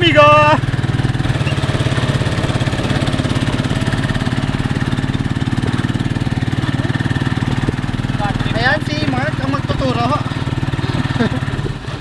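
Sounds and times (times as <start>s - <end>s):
motorcycle engine putter: 1.0s - 8.4s, 9.3s - 12.0s.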